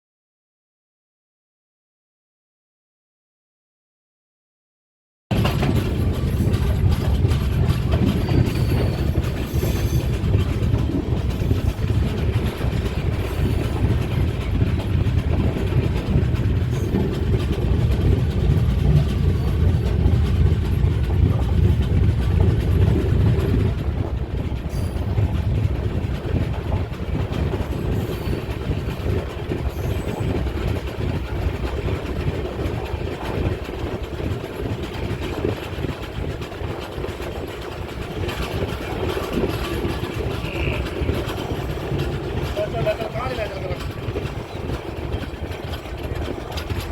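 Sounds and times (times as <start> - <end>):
train wheels rumbling on rails: 5.3 - 46.9.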